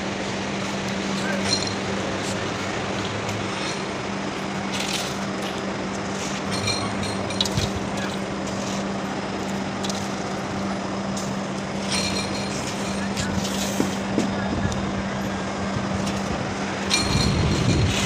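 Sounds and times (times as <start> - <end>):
broad noisy background: 0.0 - 18.0.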